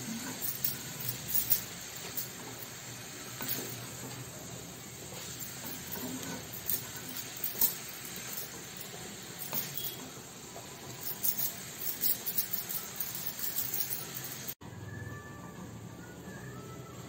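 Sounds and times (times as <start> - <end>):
low sizzle: 0.0 - 15.0.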